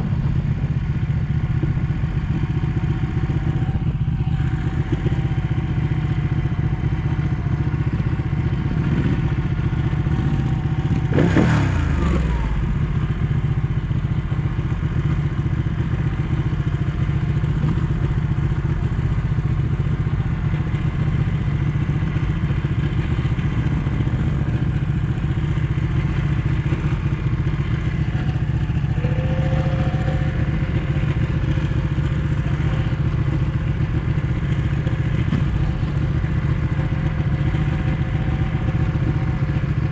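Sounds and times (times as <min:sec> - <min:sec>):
motorcycle engine revving: 0:01.4 - 0:39.9.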